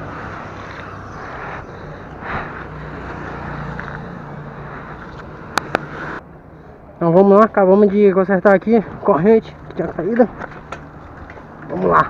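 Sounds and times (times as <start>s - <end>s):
vehicle engine hum: 0.0s - 7.8s, 8.6s - 12.0s
street noise: 0.0s - 12.0s.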